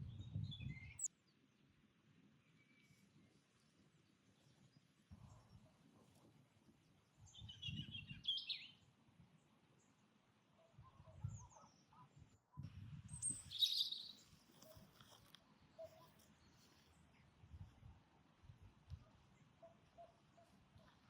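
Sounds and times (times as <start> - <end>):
songbirds chirping: 0.0 - 17.5.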